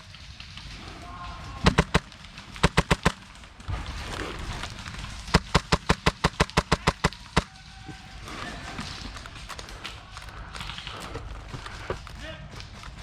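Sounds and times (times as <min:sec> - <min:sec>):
airsoft gun firing rapid shots: 0:00.8 - 0:13.0.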